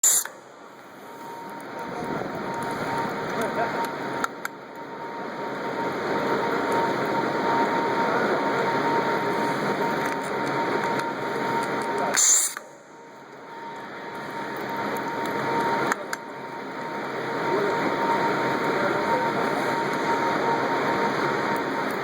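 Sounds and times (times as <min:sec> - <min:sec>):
thin whine: 0:00.0 - 0:22.0.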